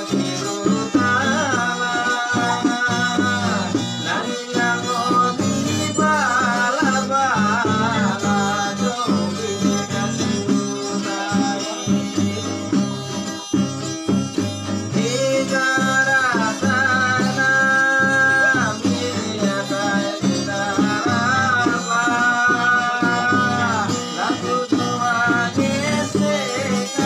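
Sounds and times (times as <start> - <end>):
steady drum beat: 0.0 - 27.0
violin folk melody: 0.0 - 27.0.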